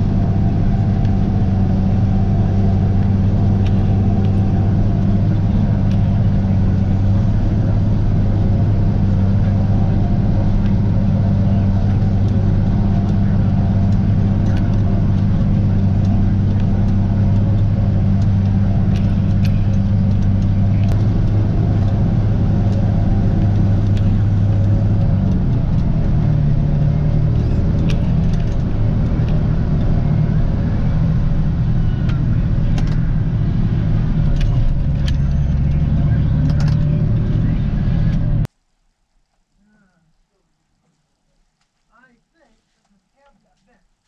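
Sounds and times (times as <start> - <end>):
tractor engine running under load: 0.0 - 38.5.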